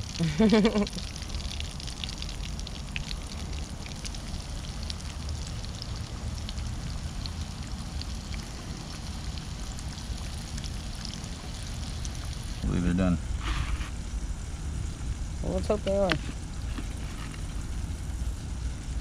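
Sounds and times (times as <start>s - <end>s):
fish deep-frying in hot oil: 0.0s - 19.0s
low rumble: 0.0s - 19.0s.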